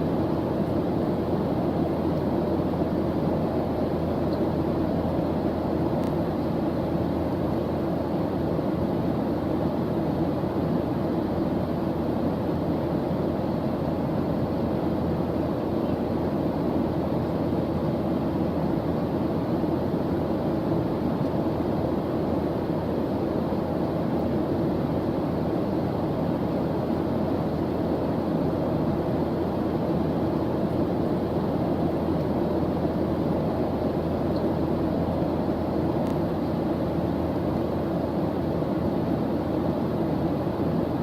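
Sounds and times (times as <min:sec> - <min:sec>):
low rushing white noise hiss: 0:00.0 - 0:41.0.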